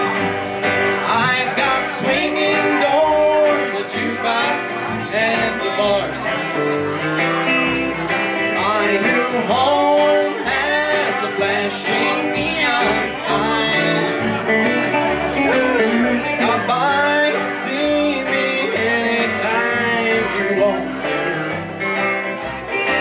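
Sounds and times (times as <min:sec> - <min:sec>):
acoustic guitar: 0:00.0 - 0:23.0
electric guitar: 0:00.0 - 0:23.0
upright double bass: 0:00.0 - 0:23.0.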